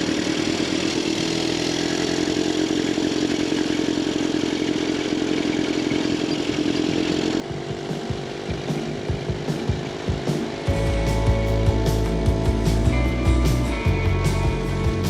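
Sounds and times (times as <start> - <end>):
motorcycle running: 0.0 - 15.0.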